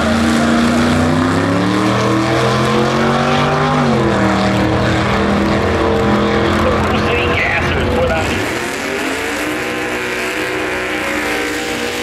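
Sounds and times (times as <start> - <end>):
drag racing cars at full throttle: 0.0 - 12.0.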